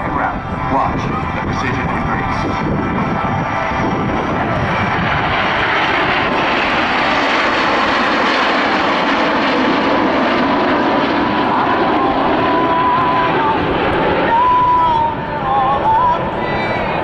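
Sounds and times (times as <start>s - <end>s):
jets flying past: 0.0s - 17.0s.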